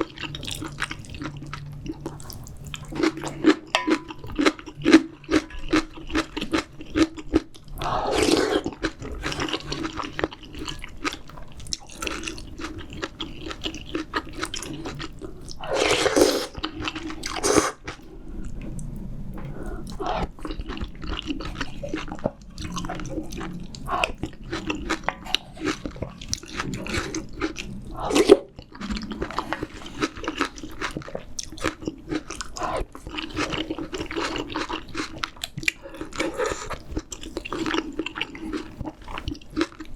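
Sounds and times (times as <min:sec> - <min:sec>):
person chewing and biting: 0:00.0 - 0:18.1, 0:19.9 - 0:39.9.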